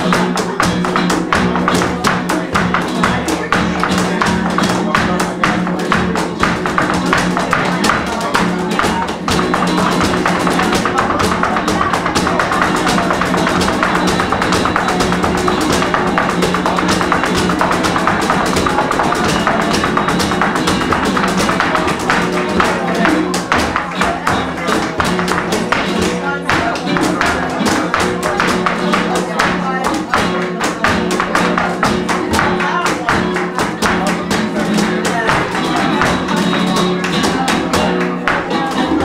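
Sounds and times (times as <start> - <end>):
cajon taps: 0.0 - 39.0
flamenco guitar strumming: 0.0 - 39.0
heeled dance footwork: 0.0 - 39.0.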